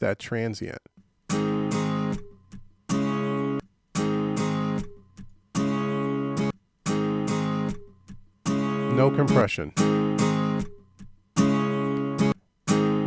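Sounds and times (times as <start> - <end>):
acoustic guitar strumming: 1.0 - 13.0.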